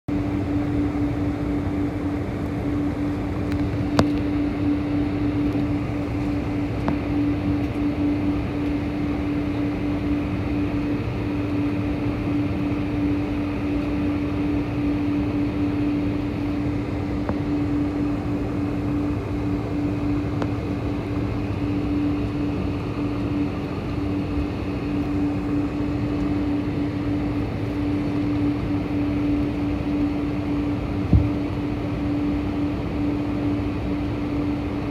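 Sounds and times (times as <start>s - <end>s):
airplane cabin engine drone: 0.1s - 34.9s.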